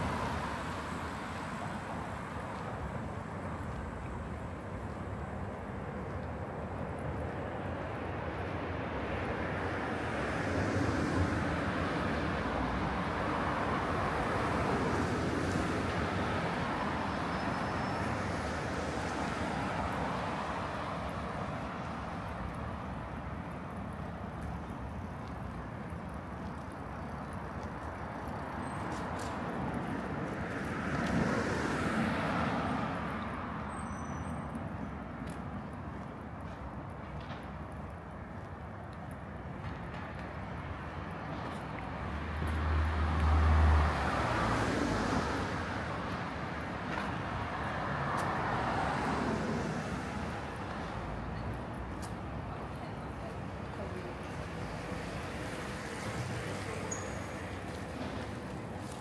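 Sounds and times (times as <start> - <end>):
cars passing: 0.0 - 59.0
traffic hum: 0.0 - 59.0.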